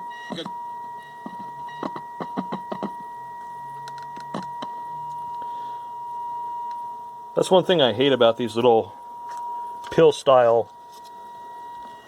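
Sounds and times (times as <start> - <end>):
high test tone from radio speaker: 0.0 - 12.0.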